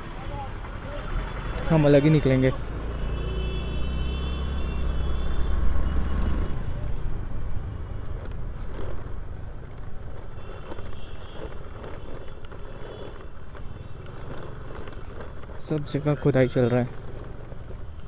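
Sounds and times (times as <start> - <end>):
wind and traffic rumble: 0.0 - 18.0.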